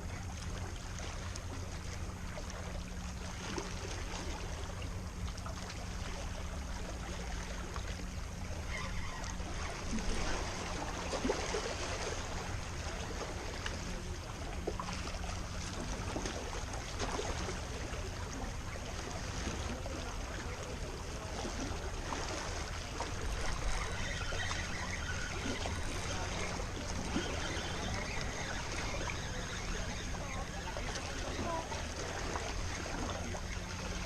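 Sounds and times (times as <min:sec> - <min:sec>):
water lapping and splashing: 0:00.0 - 0:34.0.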